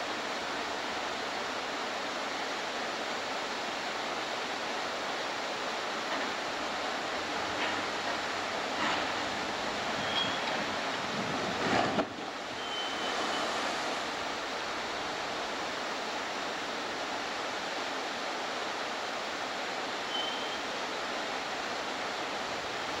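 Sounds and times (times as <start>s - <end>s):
rushing wind: 0.0s - 19.9s
rushing water: 0.0s - 23.0s.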